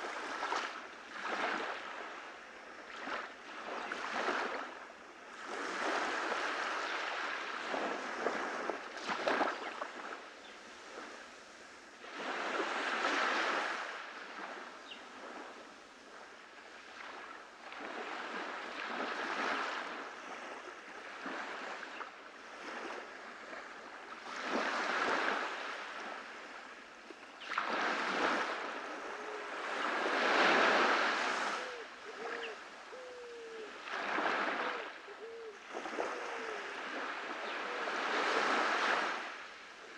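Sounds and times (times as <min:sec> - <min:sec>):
ocean waves breaking on a beach: 0:00.0 - 0:39.9.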